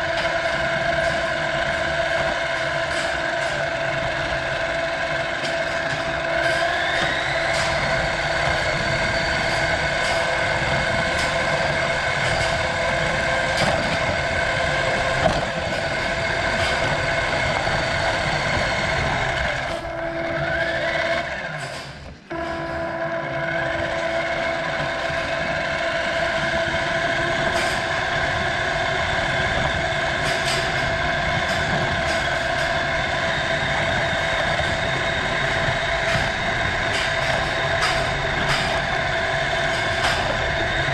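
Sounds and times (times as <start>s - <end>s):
toy car electric motor whining: 4.5s - 40.9s.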